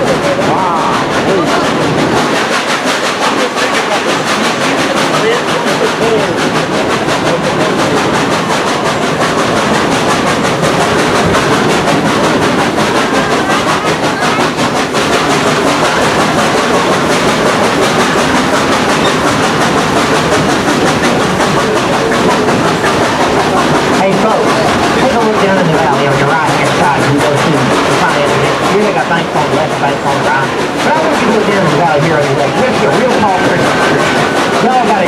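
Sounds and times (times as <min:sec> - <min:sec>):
train wheels rumbling and clattering: 0:00.0 - 0:35.0.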